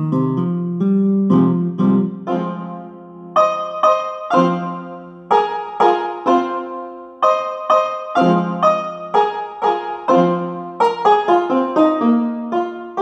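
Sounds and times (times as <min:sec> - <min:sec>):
piano-like ringtone melody: 0:00.0 - 0:13.0.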